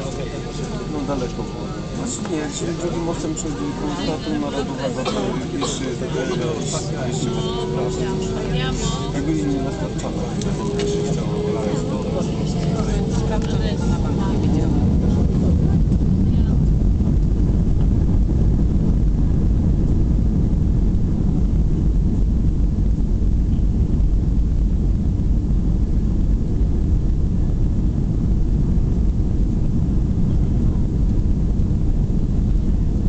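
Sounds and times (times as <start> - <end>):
jet engine rumble: 0.0 - 33.0.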